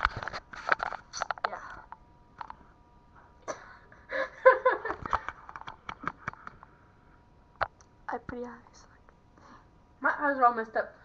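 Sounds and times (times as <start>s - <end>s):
faint electrical whine: 0.0s - 11.0s.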